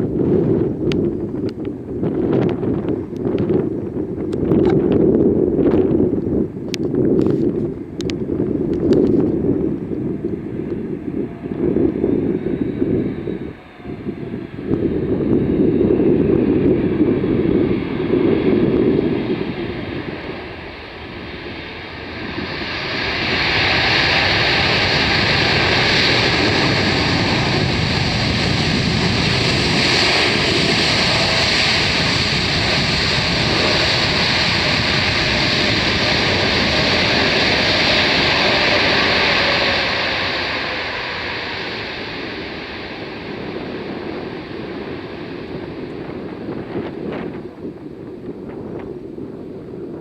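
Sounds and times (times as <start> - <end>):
jet airliner engines whining: 0.0 - 50.0
wind rumbling on microphone: 0.0 - 50.0.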